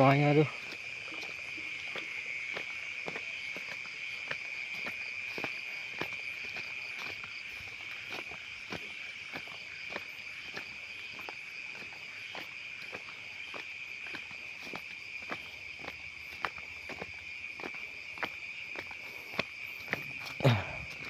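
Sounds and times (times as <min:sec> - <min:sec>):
footsteps on path: 0:00.0 - 0:21.0
night insects chirring: 0:00.0 - 0:21.0.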